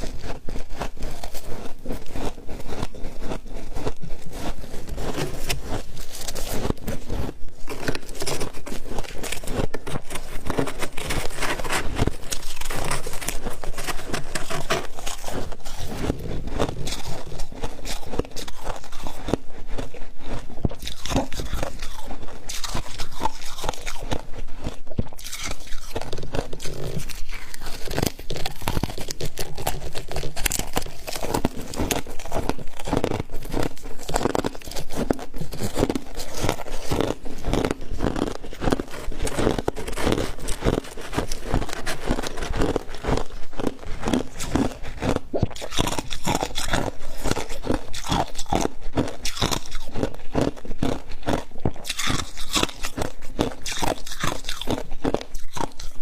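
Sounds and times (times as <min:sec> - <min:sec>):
chewing and crunching frost: 0:00.0 - 0:56.0.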